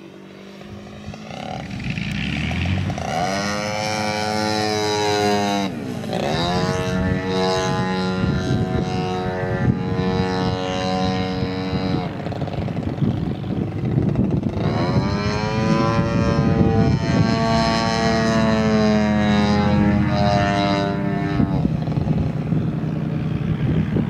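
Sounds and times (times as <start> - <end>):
model plane engine and propeller: 0.0 - 24.0.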